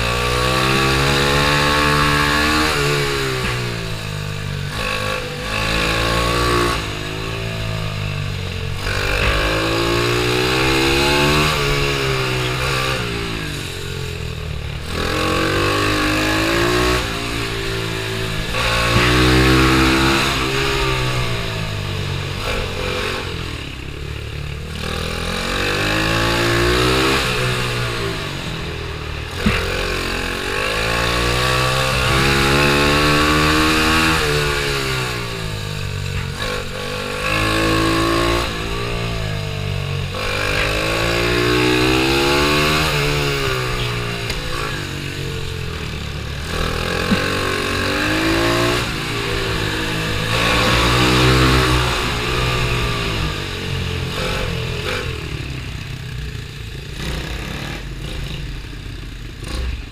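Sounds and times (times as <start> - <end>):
pit bike engine racing: 0.0 - 59.9.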